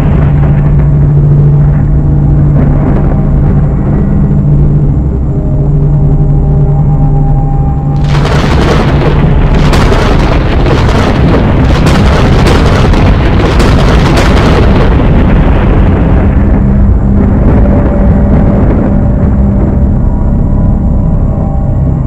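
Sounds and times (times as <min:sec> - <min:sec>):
low droning notes: 0:00.0 - 0:22.0
rumbling crackling fire effect: 0:00.0 - 0:22.0.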